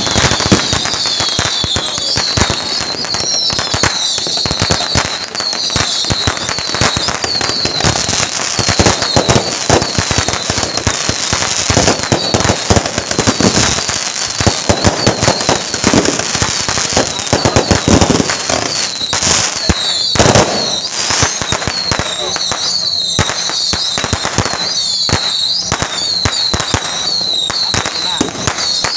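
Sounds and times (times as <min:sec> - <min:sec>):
firecrackers crackling: 0:00.0 - 0:28.9
loud firecracker bangs: 0:00.0 - 0:28.9.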